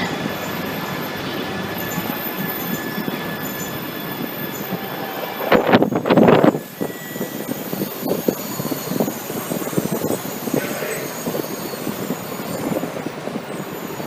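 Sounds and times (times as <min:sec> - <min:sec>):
trains and station rush: 0:00.0 - 0:14.0.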